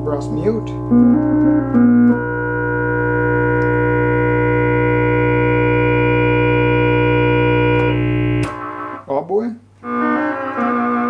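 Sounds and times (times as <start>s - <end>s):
low bass tone: 0.0s - 9.0s
electronic keyboard brass chord: 0.0s - 9.1s, 9.8s - 11.0s.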